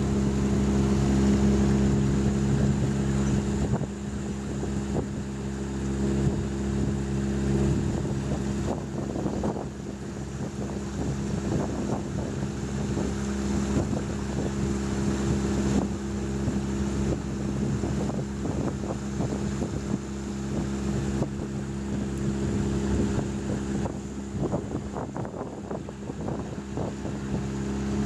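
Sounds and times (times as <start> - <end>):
small boat motor running: 0.0 - 28.0
wind buffeting microphone: 0.0 - 28.0.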